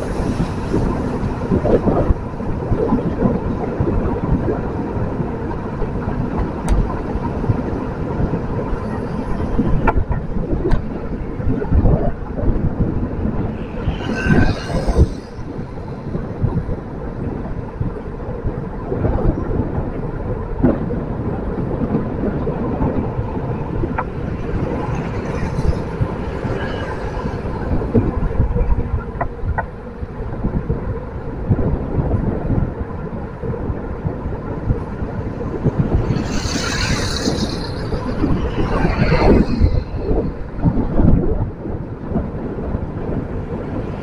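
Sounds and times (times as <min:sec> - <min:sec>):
road and traffic rumble: 0:00.0 - 0:44.0
wind buffeting microphone: 0:00.0 - 0:44.0.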